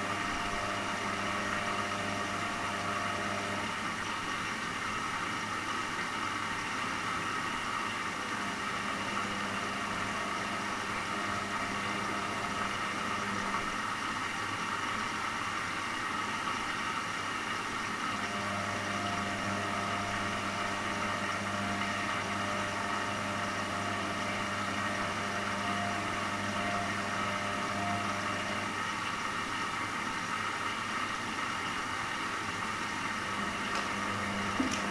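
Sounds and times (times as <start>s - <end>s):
washing machine running: 0.0s - 34.9s.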